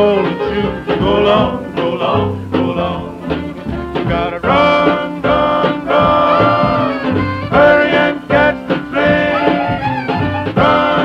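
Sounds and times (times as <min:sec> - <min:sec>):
instrumental accompaniment: 0:00.0 - 0:11.0
vocal group singing: 0:00.0 - 0:11.0.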